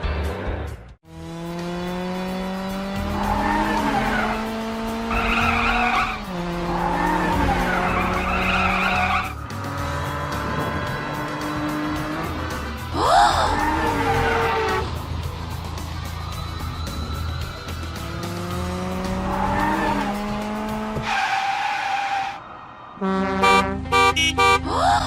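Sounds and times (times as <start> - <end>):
cartoon car engine hum: 0.0 - 21.1.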